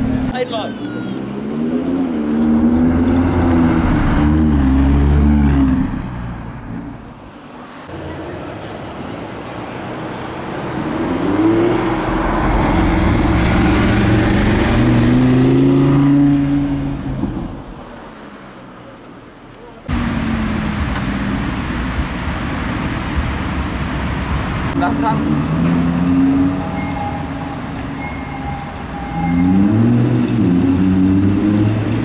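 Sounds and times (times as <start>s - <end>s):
car engine revving: 0.0s - 7.1s, 7.9s - 18.8s, 19.8s - 28.3s, 29.0s - 32.0s.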